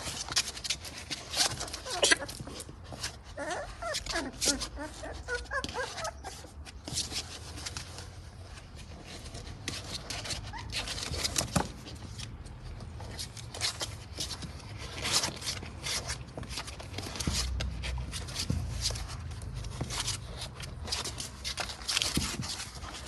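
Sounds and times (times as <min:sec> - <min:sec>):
cardboard rustling: 0:00.0 - 0:23.0
puppy claws scratching cardboard: 0:00.0 - 0:23.0.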